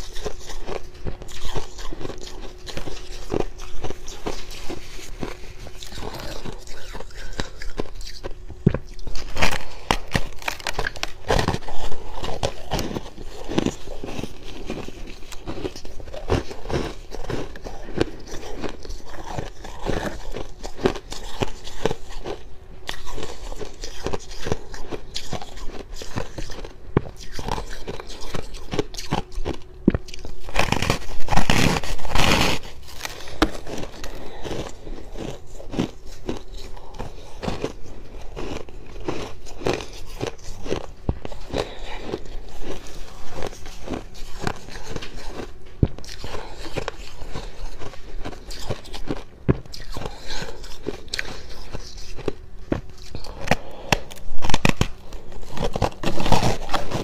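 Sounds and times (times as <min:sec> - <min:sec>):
chewing crunchy frost: 0:00.0 - 0:57.0.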